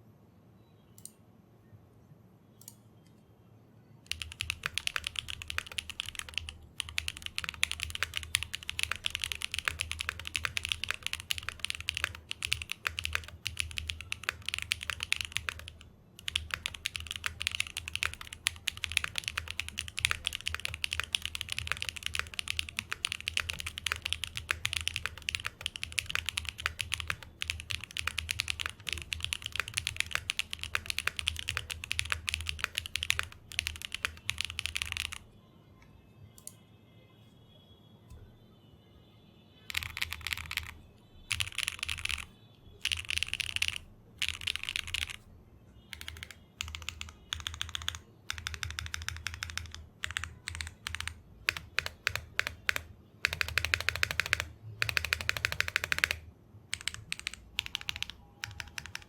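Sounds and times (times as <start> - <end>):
fast mechanical keyboard typing: 4.1 - 35.2, 39.7 - 45.2, 45.9 - 59.0.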